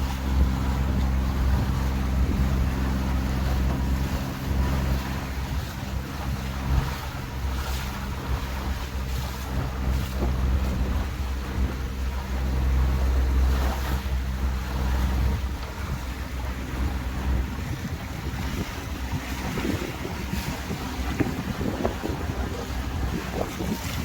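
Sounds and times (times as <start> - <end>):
boat engine running: 0.0 - 24.0
water splashing: 0.0 - 24.0
wind gusting on microphone: 0.0 - 24.0.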